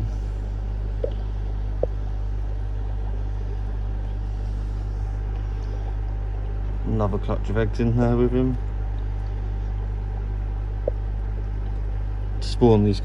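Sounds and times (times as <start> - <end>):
low hum of equipment: 0.0 - 13.0.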